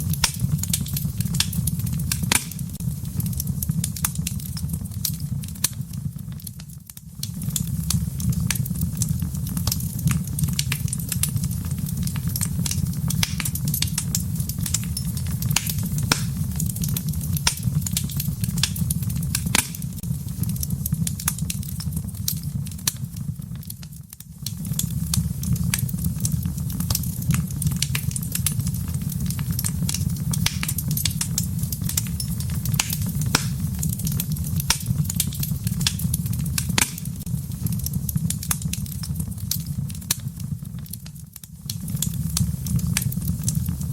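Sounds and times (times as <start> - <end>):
fire crackling and popping: 0.0 - 43.9
low rumble of flame: 0.0 - 43.9.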